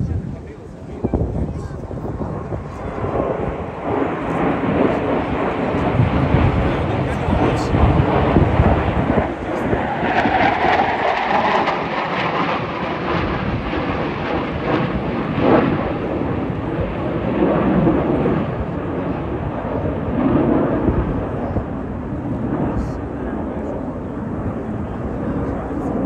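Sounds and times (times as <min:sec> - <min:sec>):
aircraft flying by: 0:00.0 - 0:26.0.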